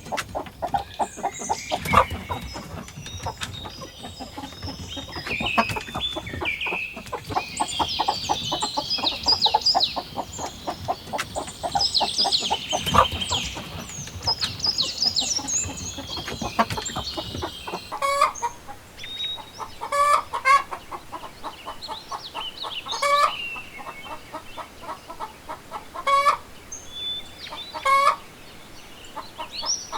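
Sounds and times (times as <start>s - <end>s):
chickens clucking: 0.0s - 26.6s, 27.3s - 28.3s, 29.0s - 29.9s.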